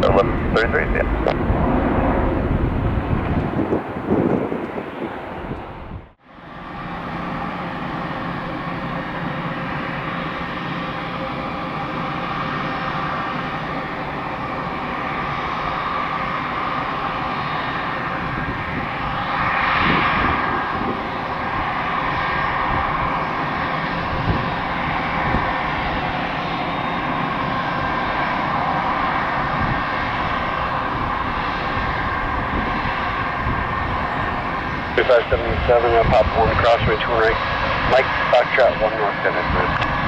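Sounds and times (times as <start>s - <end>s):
jet engines rushing rumble: 0.0s - 40.0s.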